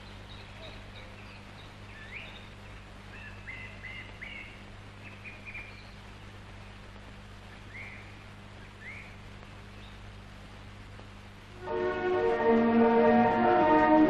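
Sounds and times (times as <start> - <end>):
small birds chirping: 0.0 - 11.5
low hum and hiss: 0.0 - 14.0.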